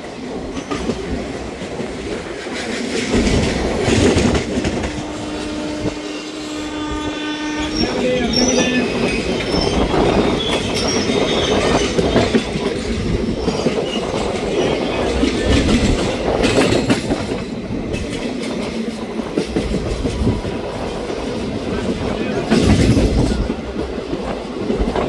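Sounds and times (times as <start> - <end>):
train wheels clattering on rails: 0.0 - 25.0.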